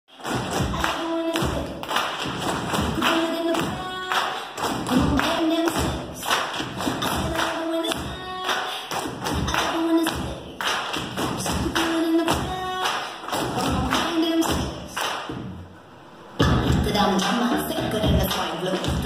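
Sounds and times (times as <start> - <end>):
upbeat dance music: 0.2 - 15.4, 16.4 - 19.0.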